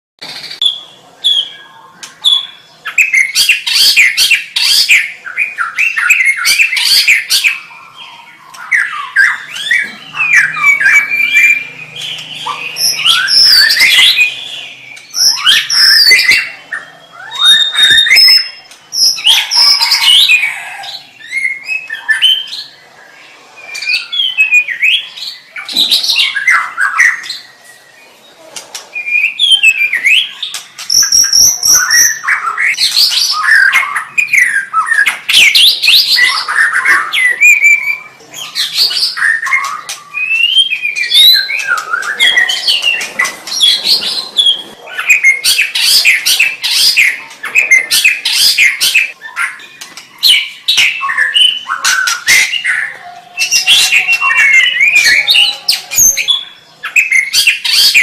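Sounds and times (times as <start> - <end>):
songbird singing loudly: 0.2 - 22.8, 29.0 - 58.0.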